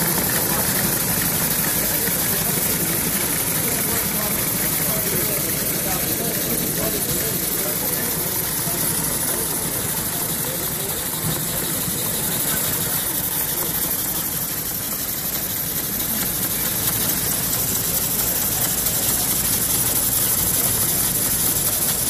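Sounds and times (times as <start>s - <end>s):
model engines humming and clattering: 0.0s - 22.0s.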